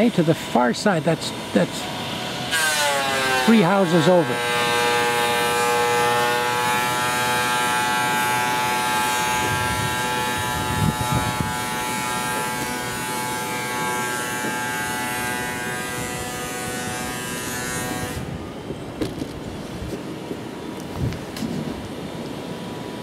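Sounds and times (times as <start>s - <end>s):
high buzzing machine drone: 0.0s - 23.0s.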